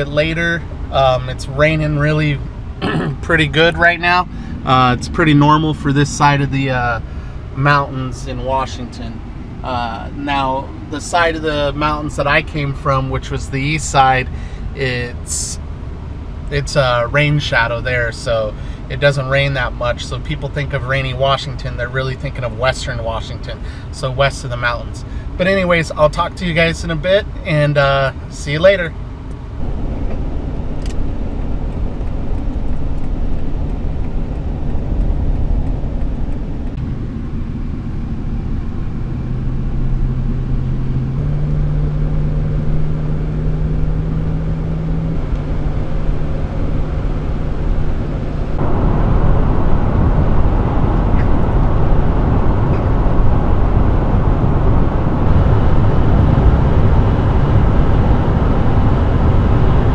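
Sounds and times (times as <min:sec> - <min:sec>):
low steady hum: 0:00.0 - 0:59.9
road and engine noise inside van: 0:00.0 - 0:59.9.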